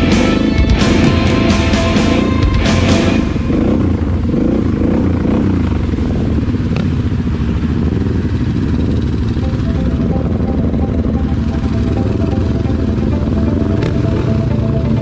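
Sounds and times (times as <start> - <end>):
other quads and dirt bike: 0.0 - 15.0
quad bike engine running: 0.0 - 15.0.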